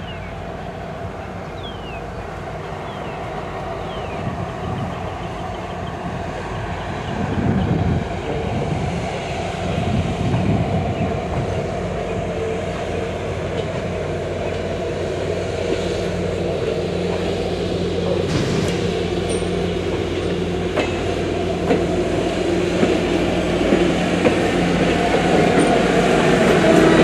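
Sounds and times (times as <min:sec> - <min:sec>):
railroad cars clattering on track: 0:00.0 - 0:27.0.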